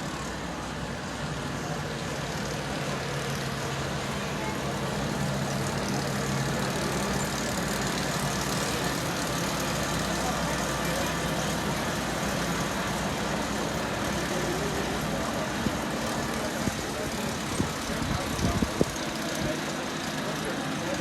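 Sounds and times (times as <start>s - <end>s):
locomotive engine rumbling: 0.0s - 21.0s.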